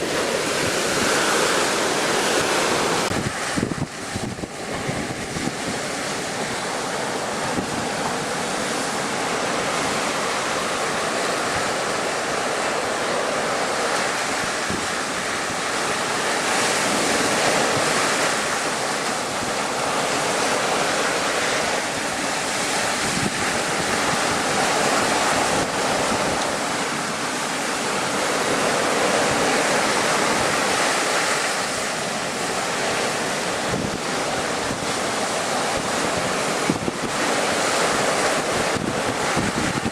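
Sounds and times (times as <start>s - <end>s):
waves breaking against a wall: 0.0s - 39.9s
wind buffeting microphone: 0.0s - 39.9s.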